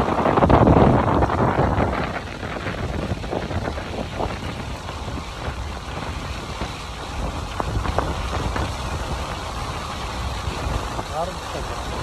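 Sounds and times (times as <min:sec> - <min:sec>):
low rumble: 0:00.0 - 0:12.0
rain falling: 0:00.0 - 0:12.0
sharp raindrop hits: 0:00.0 - 0:12.0.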